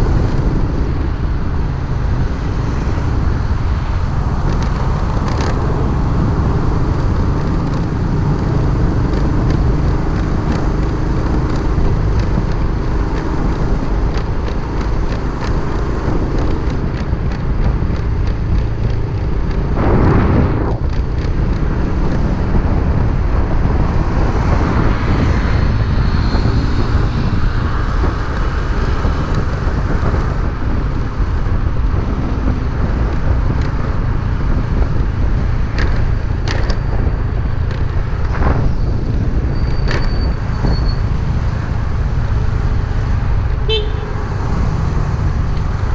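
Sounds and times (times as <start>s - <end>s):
road noise: 0.0s - 45.9s
wind rushing over microphone: 0.0s - 45.9s.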